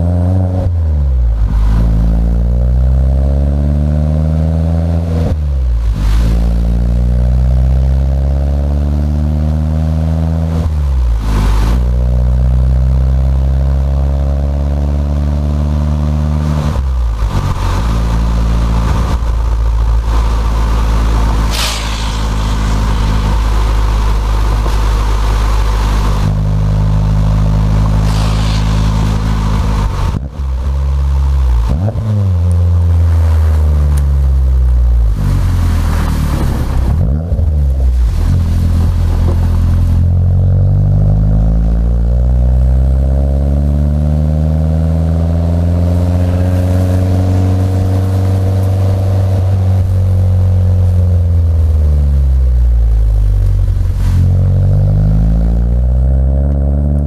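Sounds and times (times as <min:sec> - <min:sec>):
car engine running at low revs: 0:00.0 - 0:57.0.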